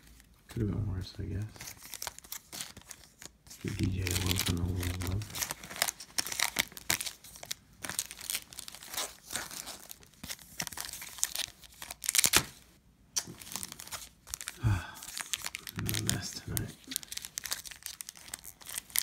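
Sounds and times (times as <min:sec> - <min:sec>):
foil wrappers crinkling: 0:01.5 - 0:19.0.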